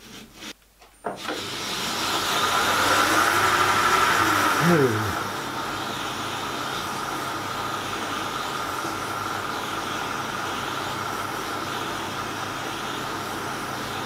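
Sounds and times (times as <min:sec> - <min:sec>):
metal lathe whining: 0:01.2 - 0:13.0.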